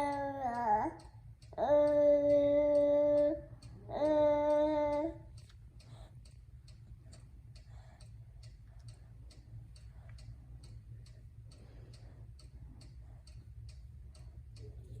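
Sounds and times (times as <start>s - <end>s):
faint mechanical ticking: 0.0s - 15.0s
low steady hum: 0.0s - 15.0s.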